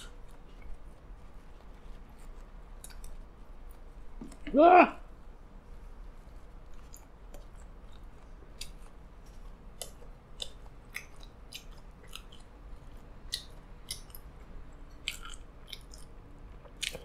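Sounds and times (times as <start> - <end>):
person chewing: 0.0 - 4.4, 6.5 - 17.0.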